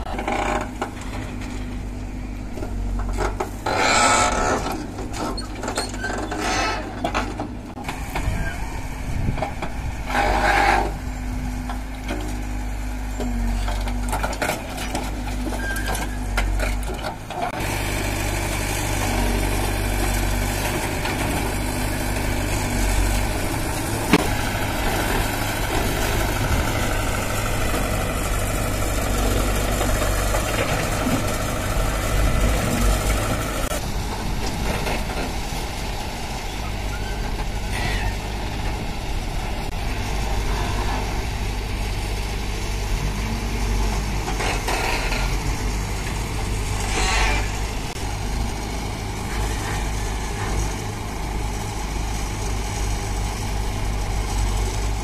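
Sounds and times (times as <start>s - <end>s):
diesel engine running: 0.0s - 55.0s
tractor engine humming: 0.0s - 55.0s.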